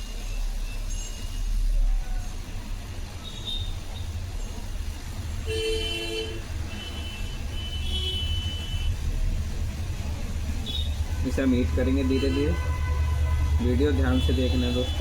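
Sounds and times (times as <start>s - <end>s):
hot-air station blowing: 0.0s - 15.0s.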